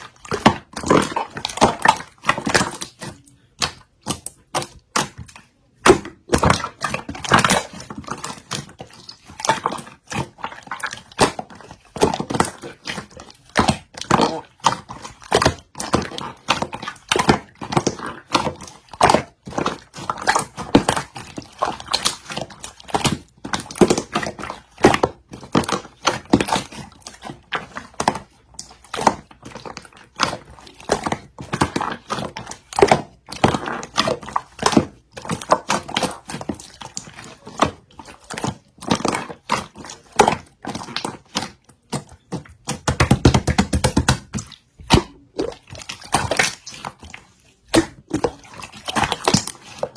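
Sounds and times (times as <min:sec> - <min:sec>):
slime squishing with sticky clicks: 0:00.0 - 0:49.9.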